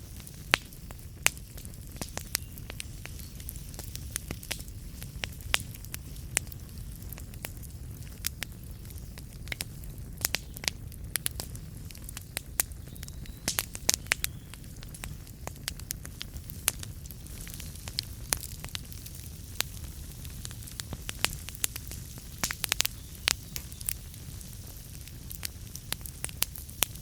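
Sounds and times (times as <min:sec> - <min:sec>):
low rumble of flame: 0:00.0 - 0:27.0
wood fire crackling and popping: 0:00.0 - 0:27.0.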